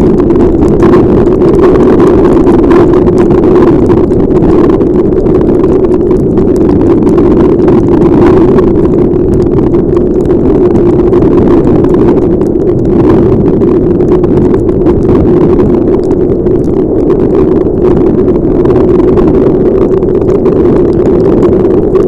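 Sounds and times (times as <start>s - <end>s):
heavy rain: 0.0s - 22.0s
wind rushing on helmet microphone: 0.0s - 22.0s.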